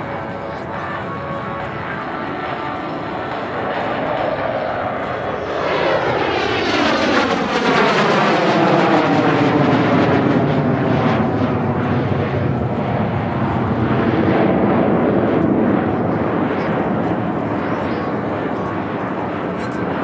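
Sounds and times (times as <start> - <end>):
jet planes flying past: 0.0 - 20.0.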